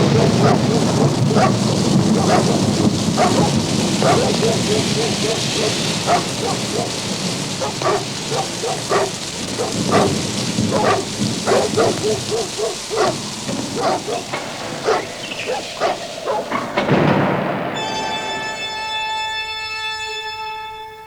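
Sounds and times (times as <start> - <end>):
dogs barking: 0.0 - 17.4
steady hiss: 0.0 - 17.7.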